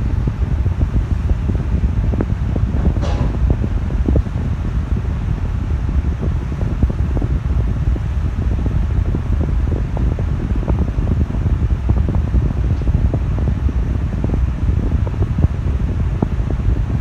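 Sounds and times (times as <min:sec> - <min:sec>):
electric fan running: 0:00.0 - 0:17.0
wind buffeting microphone: 0:00.0 - 0:17.0.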